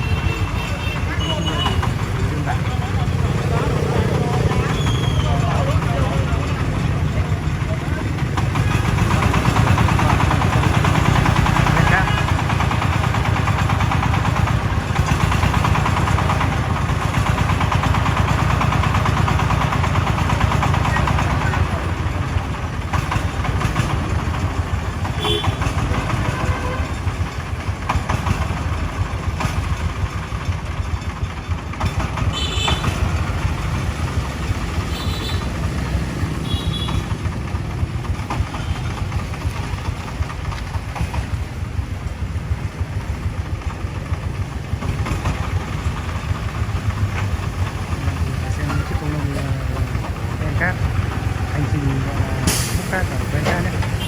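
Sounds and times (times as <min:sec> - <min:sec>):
heavy machinery diesel engine running: 0:00.0 - 0:54.0.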